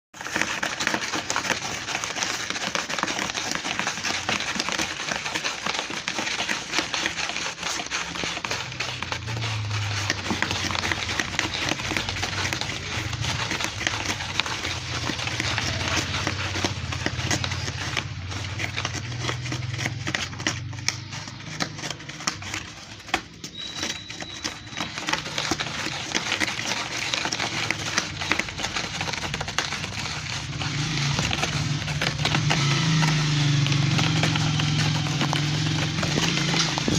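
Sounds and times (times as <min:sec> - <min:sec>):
cat scratching with claws: 0:00.1 - 0:36.9.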